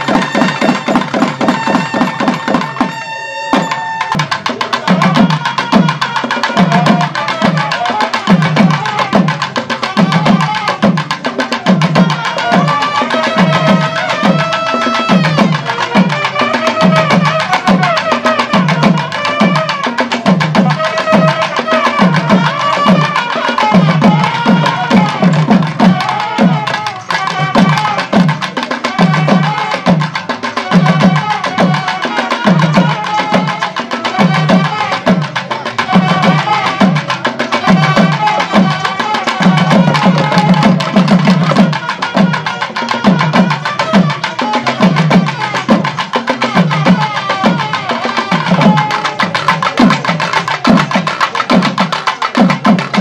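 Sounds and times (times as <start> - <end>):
barrel drums beaten with sticks: 0.0 - 53.0
reed pipes playing melody: 0.0 - 53.0.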